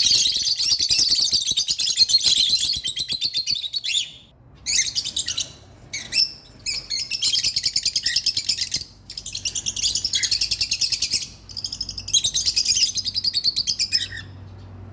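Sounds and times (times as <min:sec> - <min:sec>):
small birds chirping: 0:00.0 - 0:14.7.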